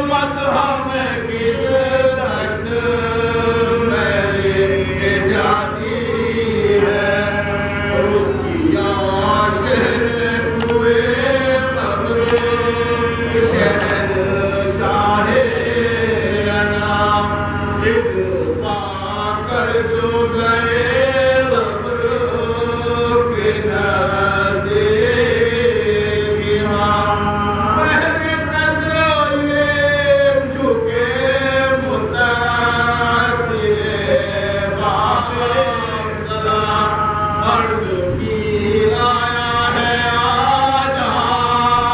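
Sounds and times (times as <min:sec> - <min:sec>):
group of men chanting: 0:00.0 - 0:18.1, 0:18.7 - 0:41.9.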